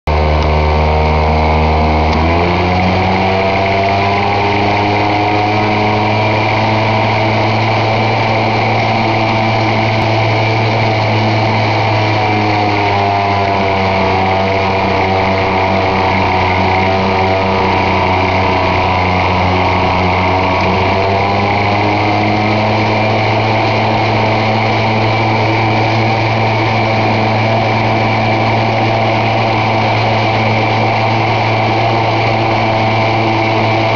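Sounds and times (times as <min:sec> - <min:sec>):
log splitter machine hum: 0:00.1 - 0:33.9.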